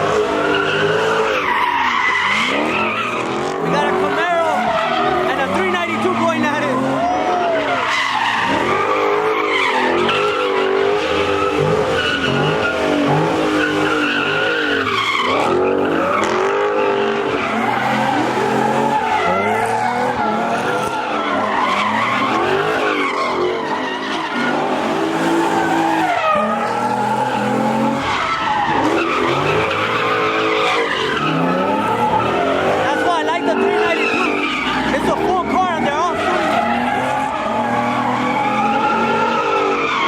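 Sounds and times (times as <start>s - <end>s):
car engines revving hard: 0.0s - 40.0s
tire squeal and skidding: 0.0s - 40.0s.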